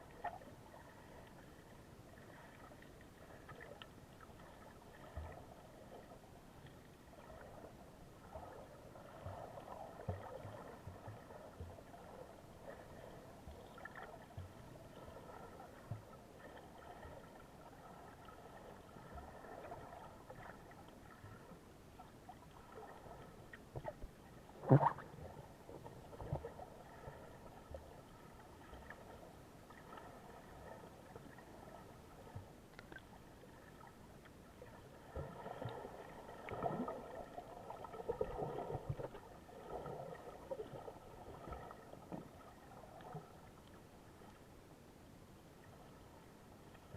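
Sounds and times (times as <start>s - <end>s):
gentle water movement: 0.0s - 46.9s.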